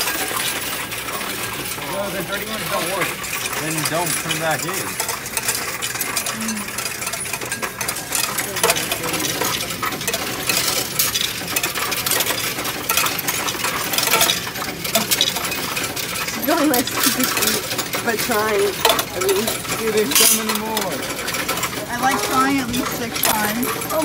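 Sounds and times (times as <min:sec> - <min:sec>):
coins clattering on steel tray: 0:00.0 - 0:24.0.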